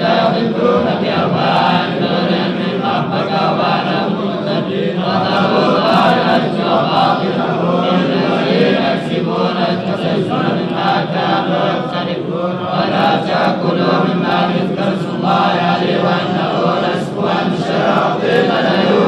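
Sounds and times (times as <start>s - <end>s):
man chanting melodically: 0.0s - 19.0s.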